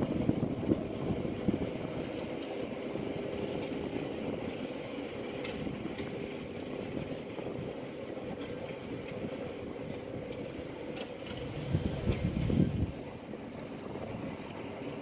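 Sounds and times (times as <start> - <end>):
ship machinery hum: 0.0 - 15.0
wind on microphone: 0.0 - 15.0.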